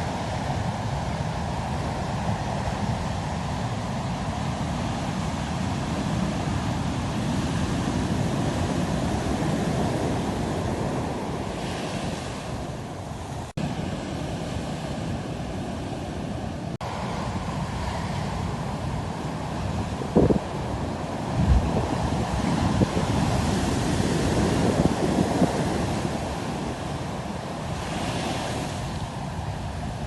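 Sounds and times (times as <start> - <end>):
waves surging and breaking: 0.0 - 30.0
wind buffeting microphone: 0.0 - 30.0.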